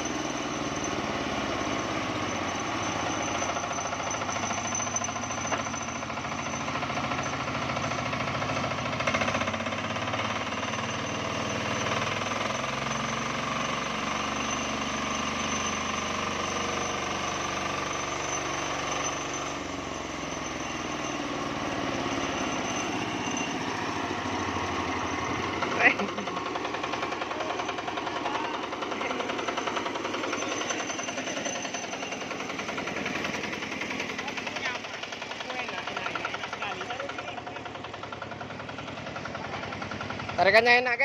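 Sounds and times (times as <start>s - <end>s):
diesel engine knocking: 0.0s - 41.0s
sawmill saw cutting: 0.0s - 41.0s.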